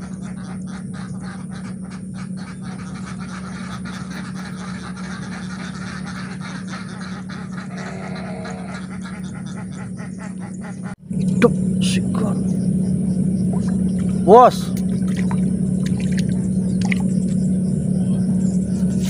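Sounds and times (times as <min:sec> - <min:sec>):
animal calls: 0:00.0 - 0:19.0
steady low hum: 0:00.0 - 0:19.0.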